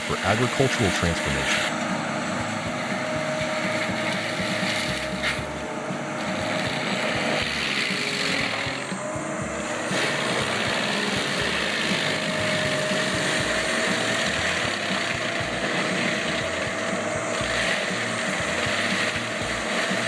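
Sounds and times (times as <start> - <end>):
faint rising whine: 0.0 - 20.0
forestry mulcher running: 0.0 - 20.0.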